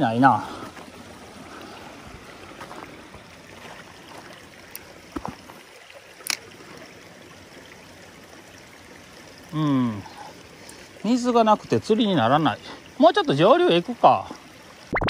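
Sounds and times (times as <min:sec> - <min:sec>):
stream trickling over stones: 0:00.0 - 0:15.0.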